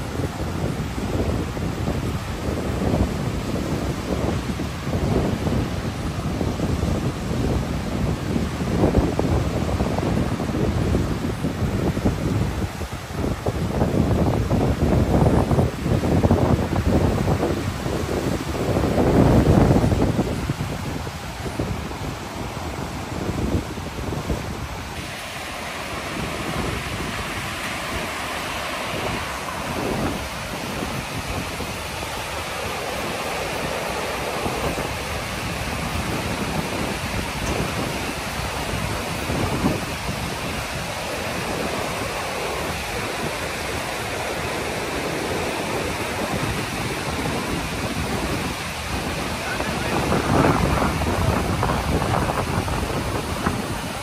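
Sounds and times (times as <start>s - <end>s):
whitewater rushing: 0.0s - 54.0s
wind gusting on microphone: 0.0s - 54.0s.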